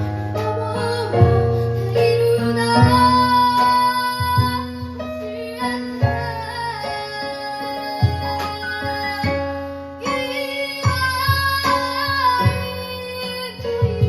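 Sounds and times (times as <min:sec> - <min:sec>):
drum hits: 0:00.0 - 0:07.0, 0:07.9 - 0:10.2, 0:10.8 - 0:12.9
keyboard: 0:00.0 - 0:14.0
child singing: 0:00.4 - 0:09.4, 0:10.0 - 0:14.0.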